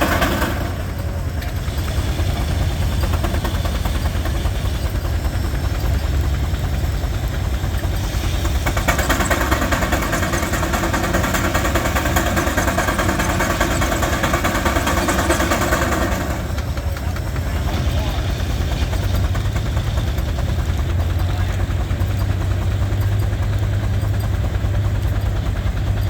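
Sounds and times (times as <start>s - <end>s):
steam engine rumbling: 0.0s - 26.0s.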